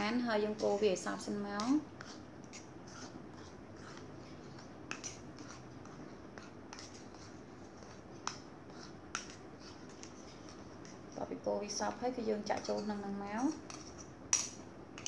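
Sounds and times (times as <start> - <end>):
spoon scraping in bowl: 0.0 - 14.2.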